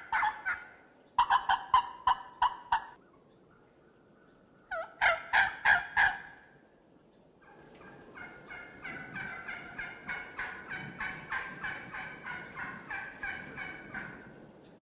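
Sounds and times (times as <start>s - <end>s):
wild turkey calling: 0.0s - 14.4s.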